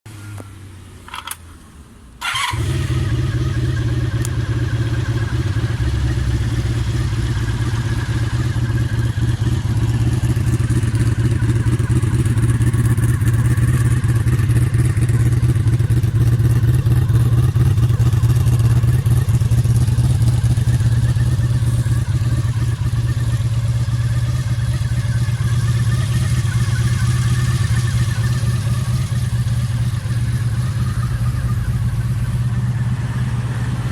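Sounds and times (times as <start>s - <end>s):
motorcycle engine starting and idling: 0.2s - 1.6s, 2.2s - 33.9s.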